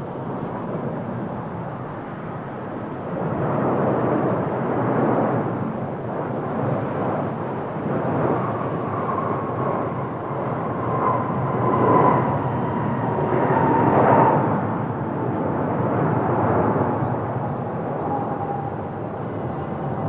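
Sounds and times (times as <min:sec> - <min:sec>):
jet engine rush and whine: 0:00.0 - 0:20.0.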